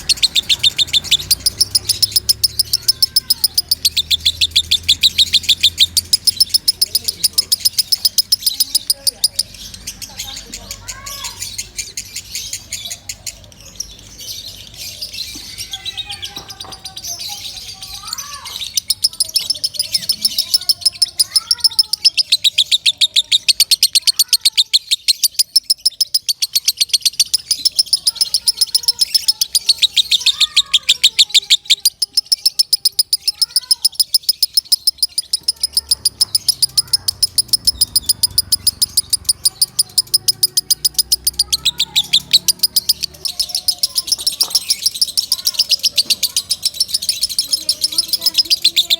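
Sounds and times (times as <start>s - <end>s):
lovebird chattering chirps: 0.0s - 48.9s.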